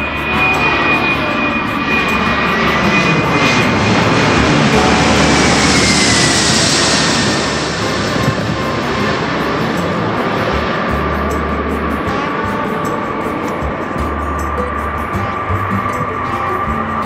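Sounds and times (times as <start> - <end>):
airliner engine roar overhead: 0.0 - 17.0
high whine sliding down in pitch: 0.0 - 17.0.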